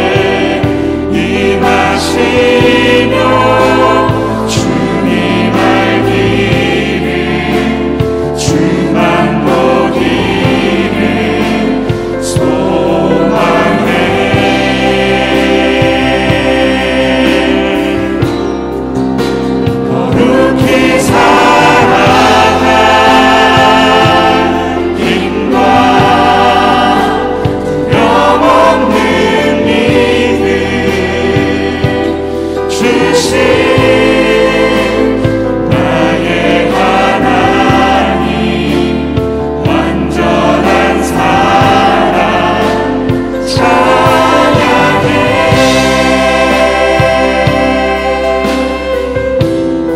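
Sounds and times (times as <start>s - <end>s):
group singing worship song: 0.0s - 49.9s
keyboards: 0.0s - 49.9s.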